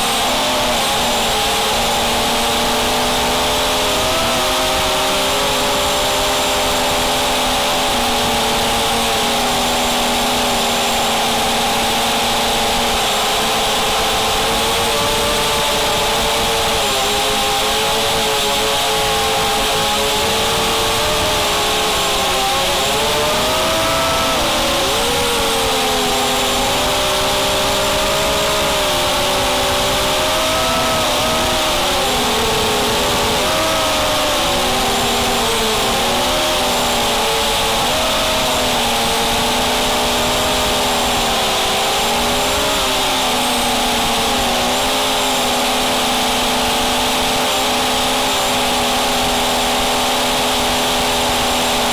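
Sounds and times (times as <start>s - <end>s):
drone motors whining: 0.0s - 51.9s.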